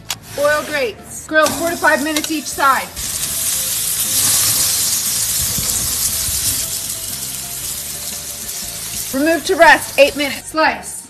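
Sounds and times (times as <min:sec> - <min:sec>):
chicken sizzling on grill: 0:01.4 - 0:10.6.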